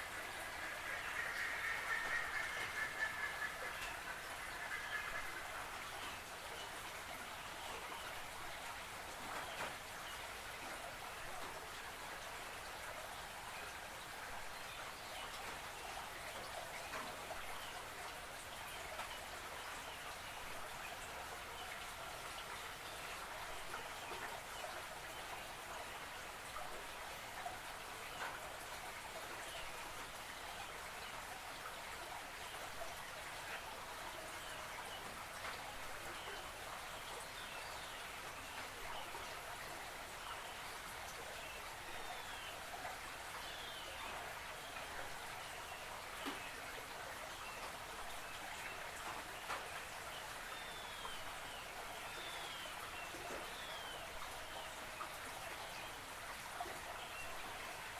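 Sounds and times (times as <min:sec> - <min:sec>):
creek water flowing: 0:00.0 - 0:57.9
small water splashes and drips: 0:00.0 - 0:57.9.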